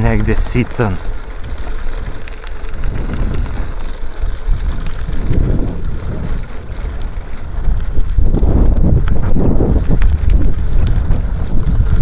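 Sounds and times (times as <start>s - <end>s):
tyres rumbling on gravel: 0.0s - 12.0s
wind buffeting microphone: 0.0s - 12.0s.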